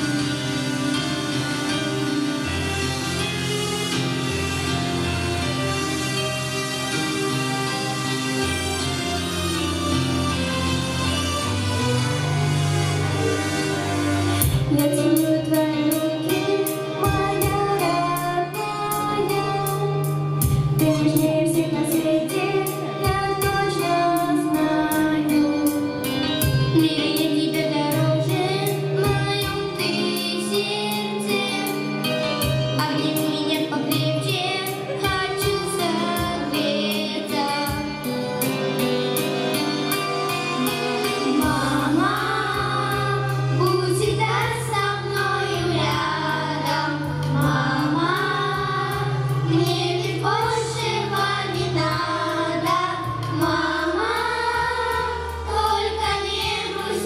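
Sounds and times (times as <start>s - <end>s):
instrumental accompaniment with steady beat: 0.0s - 57.0s
children singing into microphones: 5.8s - 38.5s, 40.5s - 57.0s.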